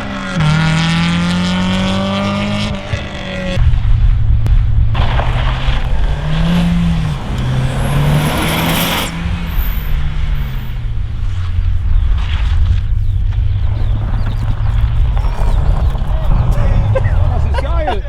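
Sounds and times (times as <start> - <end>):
car engine shifting gears: 0.0 - 18.0.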